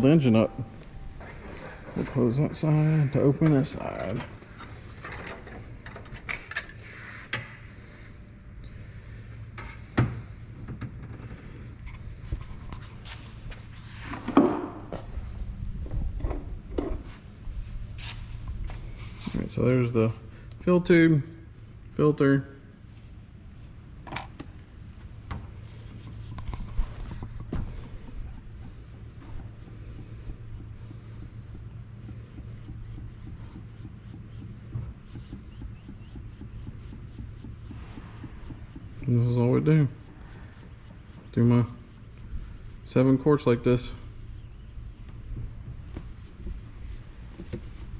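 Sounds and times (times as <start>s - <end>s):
faint regular throbbing: 0.0s - 47.9s
steady low hum: 0.0s - 47.9s.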